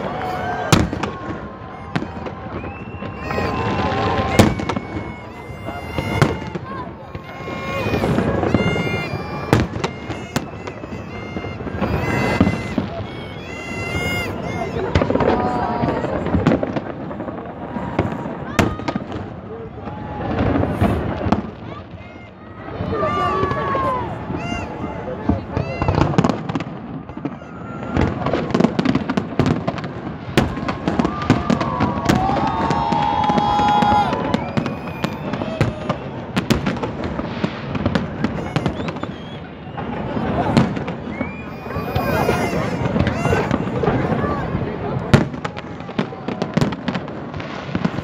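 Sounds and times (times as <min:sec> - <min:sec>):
fireworks bangs: 0:00.0 - 0:48.0
fireworks whistling: 0:00.0 - 0:48.0.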